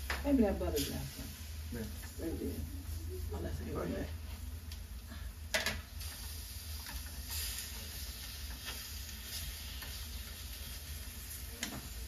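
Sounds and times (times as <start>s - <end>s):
food sizzling on hot stone: 0.0s - 12.0s.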